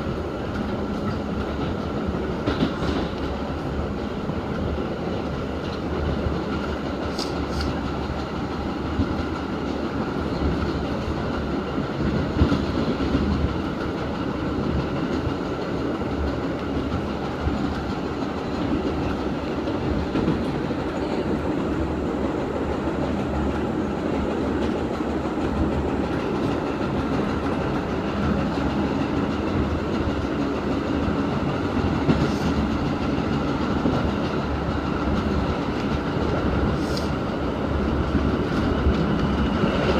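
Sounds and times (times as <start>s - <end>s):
train wheels clickety-clack: 0.0s - 39.9s.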